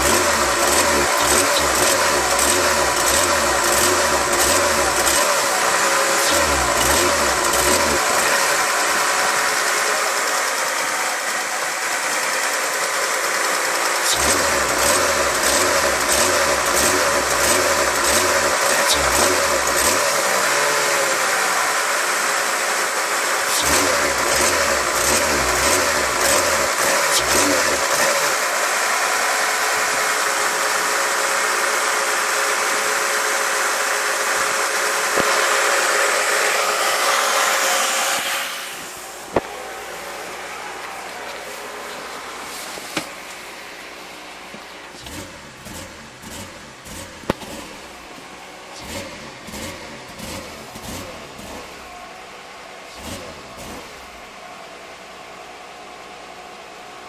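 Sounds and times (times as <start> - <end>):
car engine idling high: 0.0 - 57.0.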